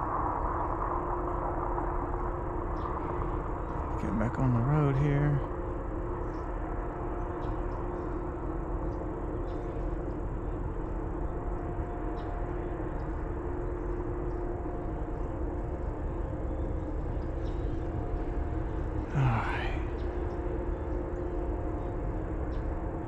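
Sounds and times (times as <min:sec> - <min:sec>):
faint steady drone: 0:00.0 - 0:23.0.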